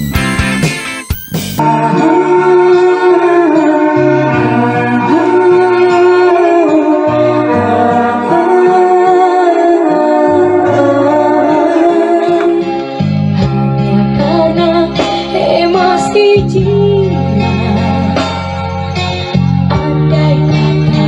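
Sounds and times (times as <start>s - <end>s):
instrumental accompaniment: 0.0s - 21.0s
woman singing into microphone: 1.6s - 18.3s, 19.7s - 21.0s.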